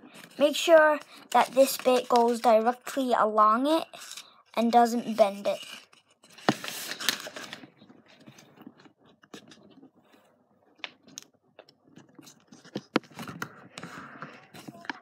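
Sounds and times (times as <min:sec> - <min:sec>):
paper rustling and crinkling: 0:00.0 - 0:03.0, 0:04.0 - 0:15.0.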